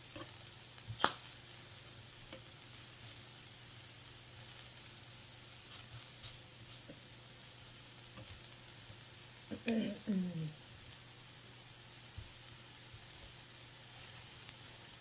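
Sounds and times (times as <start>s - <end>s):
food sizzling on a grill: 0.0s - 15.0s.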